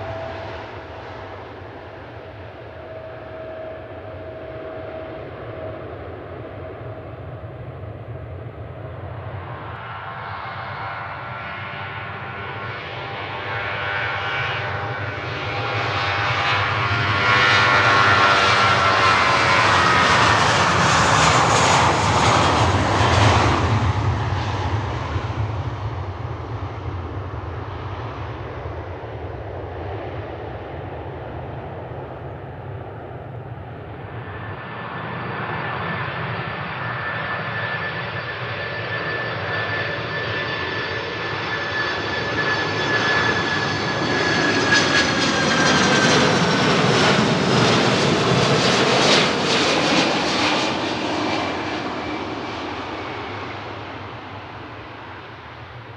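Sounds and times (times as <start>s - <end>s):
jet airliner passing: 0.0s - 55.9s
jet engine high whine: 0.0s - 55.9s.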